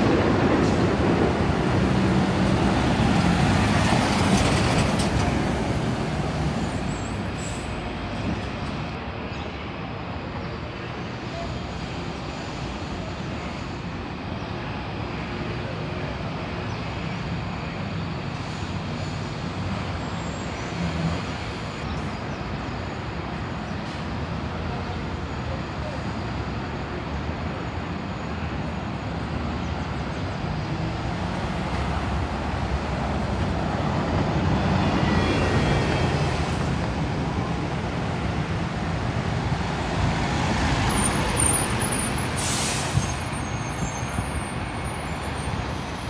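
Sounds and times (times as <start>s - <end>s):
bus diesel engines passing: 0.0s - 46.0s
traffic rumble: 0.0s - 46.0s.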